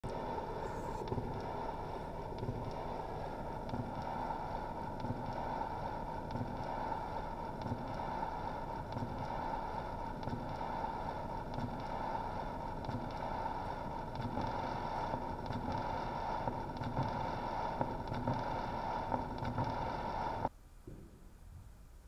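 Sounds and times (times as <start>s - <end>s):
turntable motor rumble: 0.0s - 20.5s
record surface hiss: 0.0s - 22.0s.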